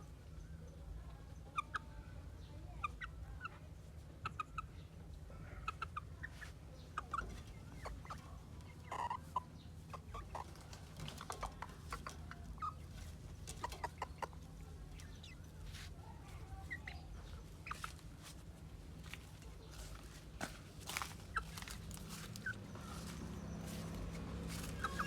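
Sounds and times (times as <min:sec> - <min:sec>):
chickens clucking: 0:00.1 - 0:25.0
steady low hum: 0:04.8 - 0:25.0.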